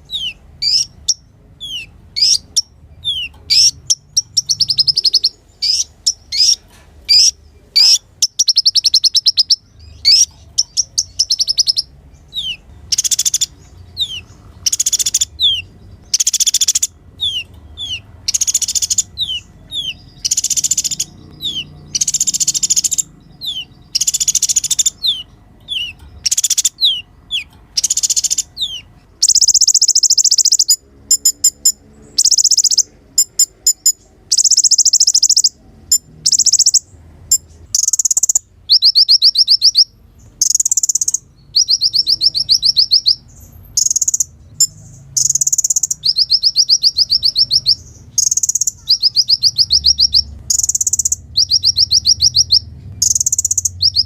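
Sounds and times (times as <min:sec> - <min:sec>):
sunbird trilling song: 0:00.0 - 0:54.0.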